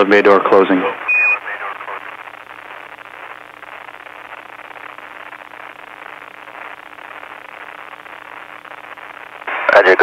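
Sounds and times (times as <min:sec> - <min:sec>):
faint steady hum: 0:00.0 - 0:10.0
radio static hiss: 0:00.0 - 0:10.0.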